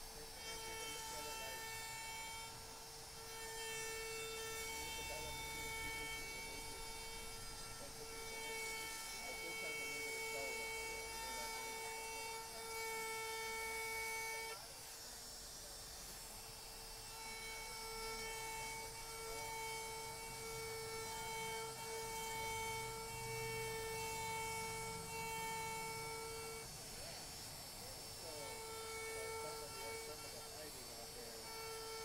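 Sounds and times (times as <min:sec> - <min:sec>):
wood router whining: 0:00.0 - 0:32.0.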